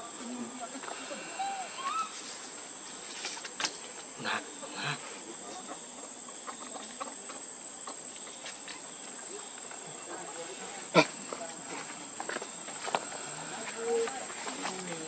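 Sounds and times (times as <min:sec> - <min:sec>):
steady high insect tone: 0:00.0 - 0:15.0.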